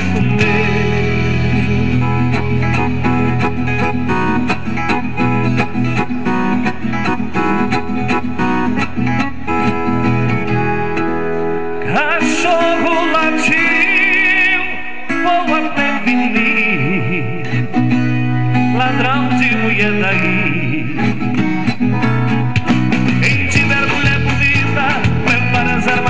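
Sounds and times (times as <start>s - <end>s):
keyboard music: 0.0s - 26.0s.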